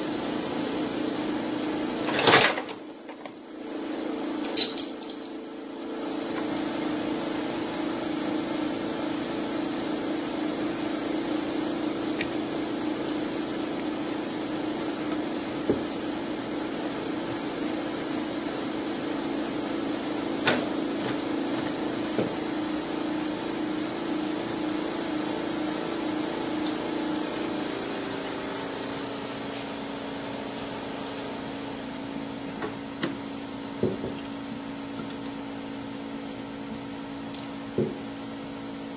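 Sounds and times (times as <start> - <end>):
mechanical hum with low drone: 0.0 - 38.9.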